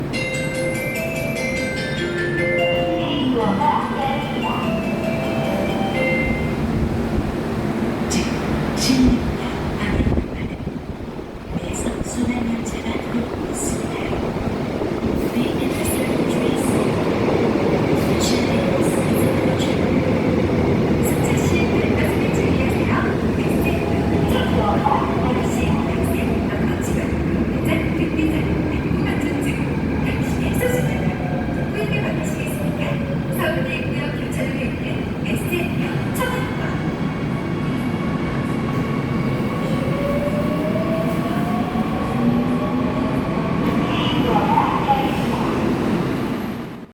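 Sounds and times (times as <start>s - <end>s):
electric train rumbling: 0.0s - 46.9s.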